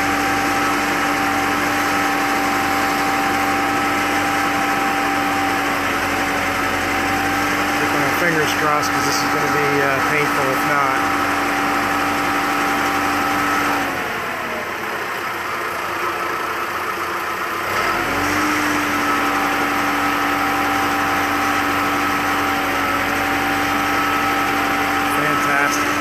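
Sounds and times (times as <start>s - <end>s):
lift motor whine: 0.0s - 16.8s, 17.6s - 26.0s
engine running: 0.0s - 26.0s.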